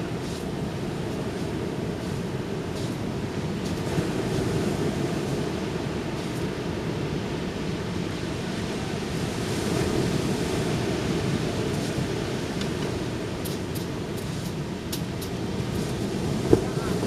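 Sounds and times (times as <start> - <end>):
ocean surf washing onto beach: 0.0 - 17.0.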